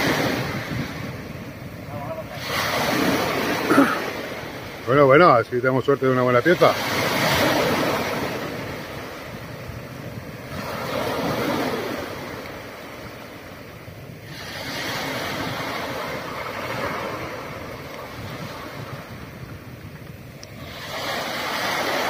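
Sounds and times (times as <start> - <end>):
sea waves breaking: 0.0 - 22.0
wind on microphone: 0.0 - 22.0.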